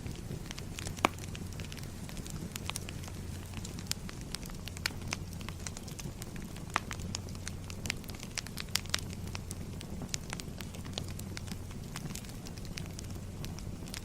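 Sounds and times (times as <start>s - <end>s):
campfire crackling: 0.0s - 14.0s
low rumble of fire: 0.0s - 14.0s.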